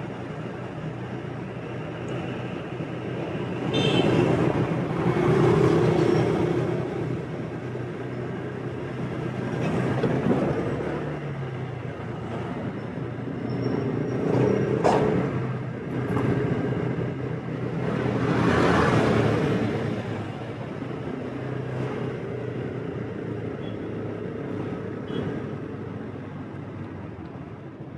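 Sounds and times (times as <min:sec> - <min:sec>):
road and wind noise: 0:00.0 - 0:27.9
vehicles passing: 0:00.0 - 0:27.9.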